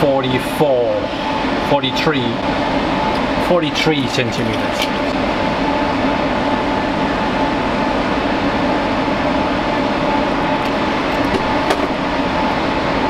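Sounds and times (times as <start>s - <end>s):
server cooling fans whirring: 0.0s - 13.0s.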